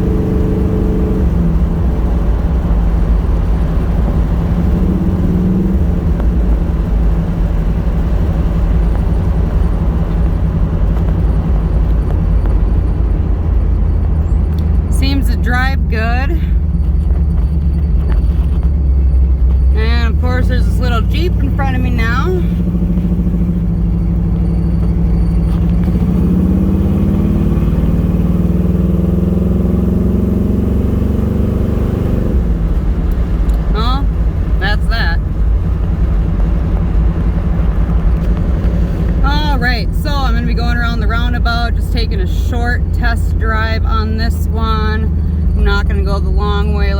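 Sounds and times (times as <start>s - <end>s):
car engine running from cabin: 0.0s - 46.9s
road noise: 0.0s - 46.9s.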